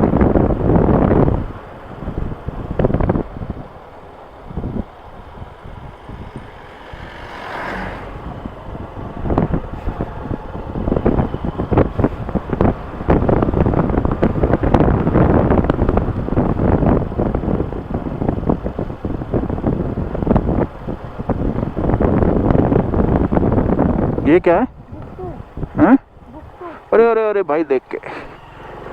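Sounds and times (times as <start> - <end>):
motorcycle engine: 0.0 - 26.7, 28.0 - 28.9
wind buffeting the microphone: 0.0 - 28.9.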